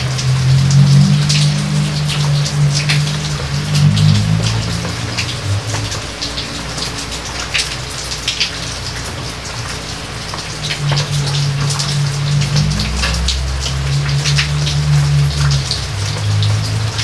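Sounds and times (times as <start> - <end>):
close raindrops: 0.0 - 17.0
low drone: 0.0 - 17.0
steady rain falling: 0.0 - 17.0.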